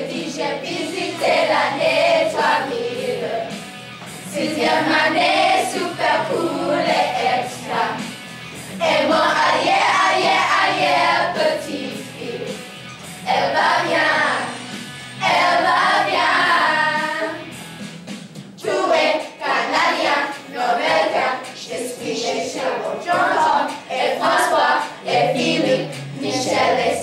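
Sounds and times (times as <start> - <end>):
children singing: 0.0 - 3.6, 4.3 - 8.2, 8.8 - 12.6, 13.2 - 14.6, 15.2 - 17.4, 18.6 - 27.0
pop music accompaniment: 0.0 - 27.0.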